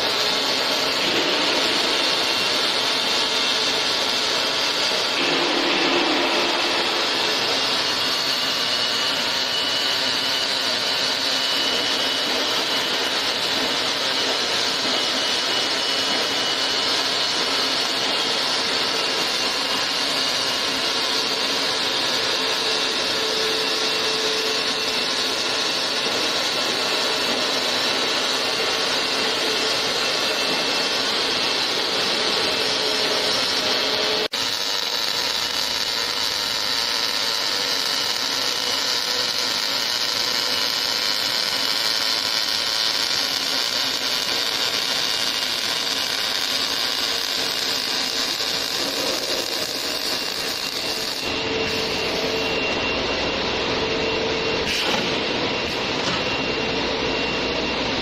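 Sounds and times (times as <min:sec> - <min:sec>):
welding arc hiss and crackle: 0:00.0 - 0:53.8, 0:54.6 - 0:56.2.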